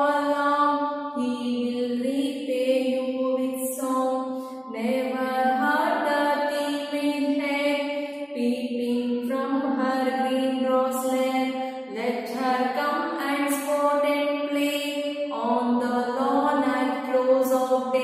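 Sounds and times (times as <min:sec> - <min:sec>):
woman singing chant-like tune: 0:00.0 - 0:18.0.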